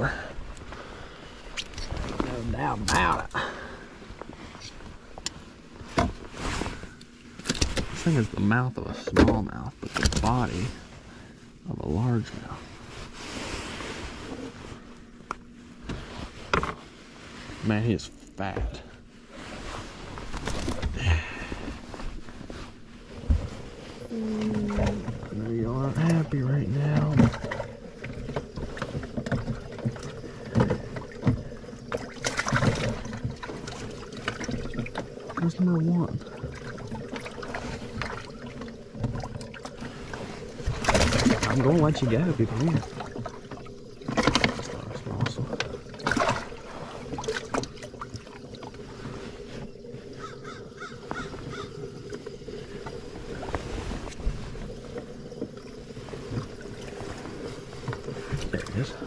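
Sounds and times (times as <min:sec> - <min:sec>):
steady low hum: 0:00.0 - 0:59.0
knocks and thumps in a boat: 0:01.6 - 0:11.0, 0:12.6 - 0:17.6, 0:18.4 - 0:59.0.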